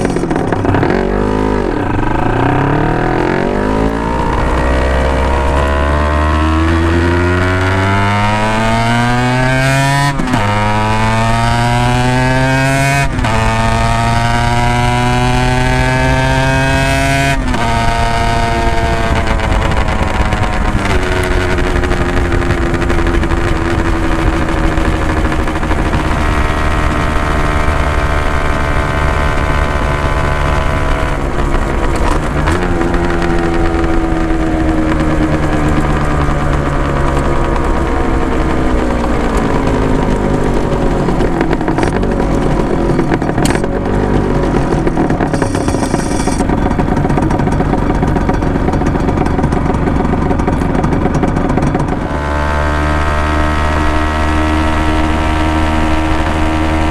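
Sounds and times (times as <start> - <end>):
two-stroke motorcycle engine revving: 0.0 - 56.9.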